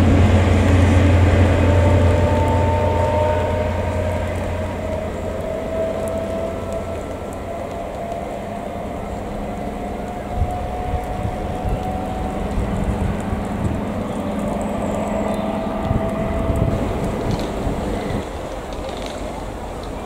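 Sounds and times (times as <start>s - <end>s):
diesel train engine hum: 0.0s - 20.0s.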